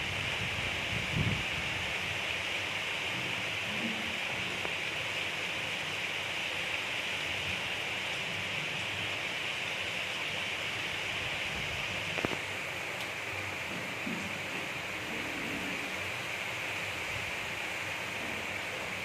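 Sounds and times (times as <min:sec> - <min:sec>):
gentle rain falling: 0:00.0 - 0:19.0.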